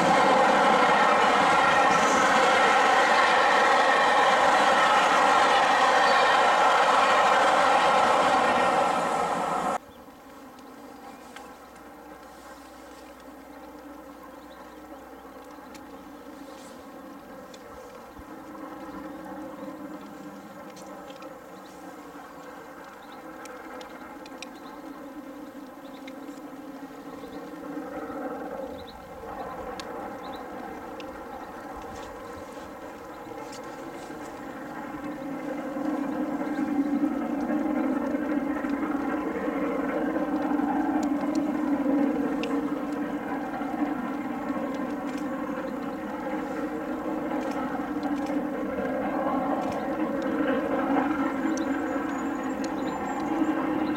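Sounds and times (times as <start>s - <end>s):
distant steam locomotive exhaust: 0.0s - 9.8s, 11.1s - 53.9s.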